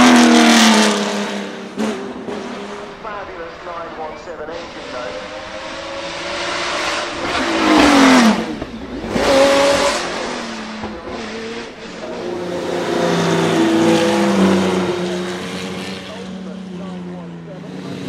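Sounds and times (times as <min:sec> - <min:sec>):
racing car engine passing: 0:00.0 - 0:18.0.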